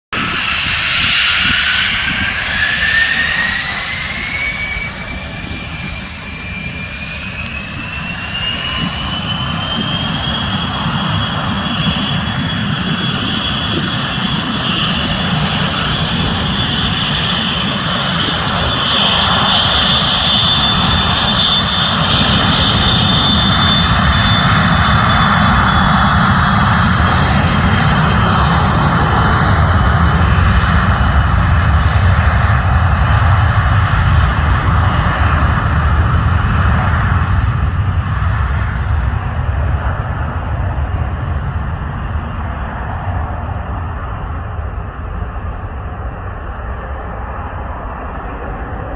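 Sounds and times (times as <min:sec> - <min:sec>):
jet engines whining: 0:00.1 - 0:48.9.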